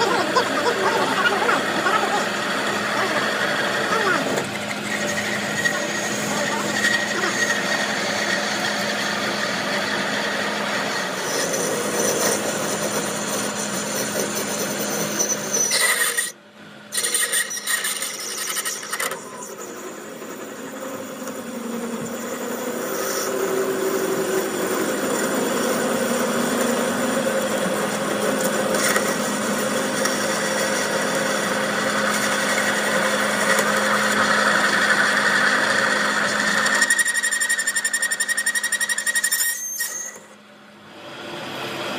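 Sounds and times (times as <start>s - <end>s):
power tool rasping against metal: 0.0s - 20.6s, 22.0s - 40.4s
motor hum: 0.0s - 41.9s.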